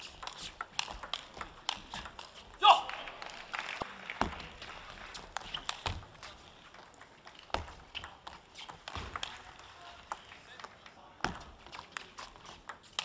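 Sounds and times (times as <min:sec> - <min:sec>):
table tennis ball tapping: 0:00.0 - 0:02.6, 0:04.2 - 0:13.0.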